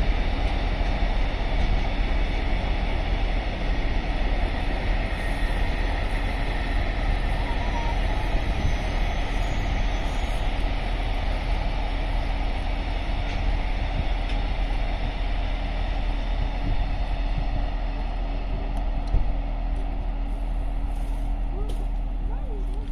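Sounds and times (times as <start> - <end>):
freight train rumbling on rails: 0.0 - 22.9.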